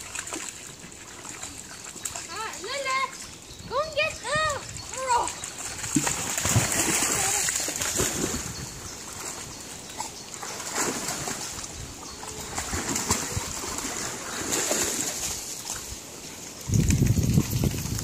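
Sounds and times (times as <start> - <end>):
dog splashing through water: 0.0 - 3.2, 4.7 - 16.1.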